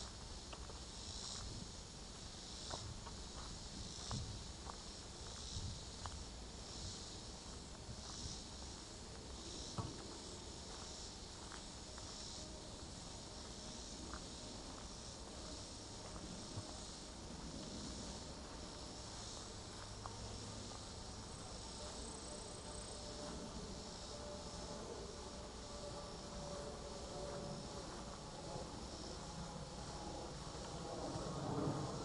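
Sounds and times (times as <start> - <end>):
insects shrilling in pulses: 0.0 - 32.0.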